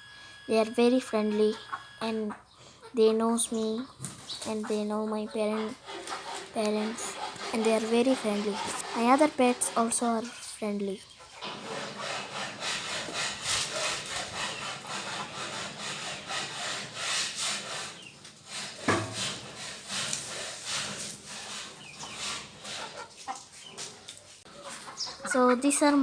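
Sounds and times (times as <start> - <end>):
hens clucking: 0.5 - 26.0
rustling and scratching: 3.4 - 26.0.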